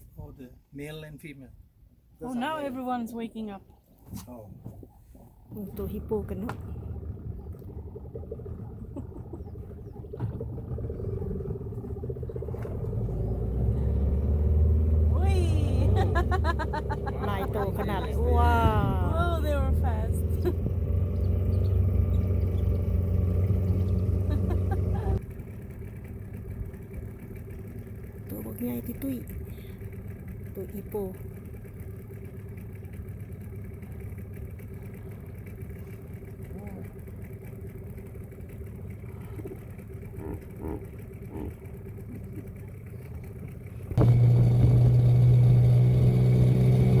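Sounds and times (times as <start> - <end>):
boat motor humming: 1.5 - 47.0.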